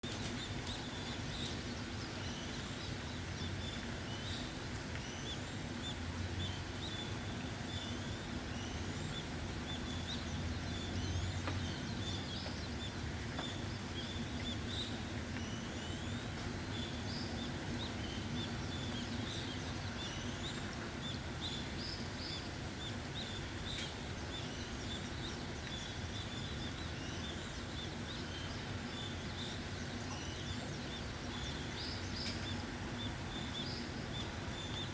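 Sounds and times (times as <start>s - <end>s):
small birds chirping: 0.0s - 34.9s
steady rain falling: 0.0s - 34.9s.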